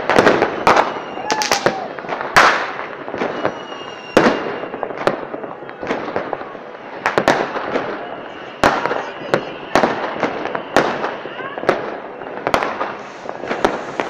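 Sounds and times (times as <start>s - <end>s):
fireworks bursting with bangs: 0.0s - 14.0s.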